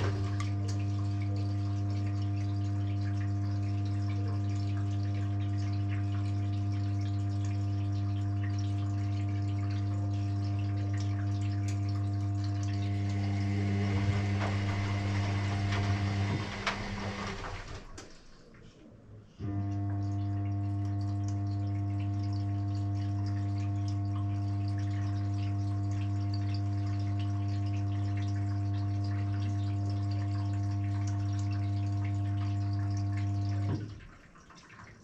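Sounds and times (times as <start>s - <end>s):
washing machine pump humming: 0.0s - 18.6s, 19.4s - 35.0s
water rushing through pump: 0.0s - 18.7s, 19.4s - 35.0s.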